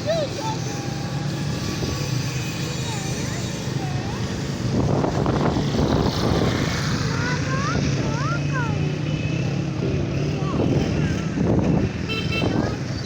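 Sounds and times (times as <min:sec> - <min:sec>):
motorcycle engine running: 0:00.0 - 0:13.0
rush of noise: 0:00.0 - 0:13.0
traffic noise: 0:00.0 - 0:13.0.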